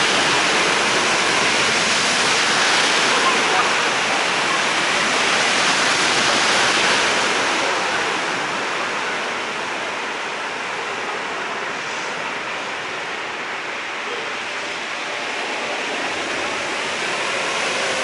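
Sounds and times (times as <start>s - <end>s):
heavy rain pouring on street: 0.0s - 18.0s.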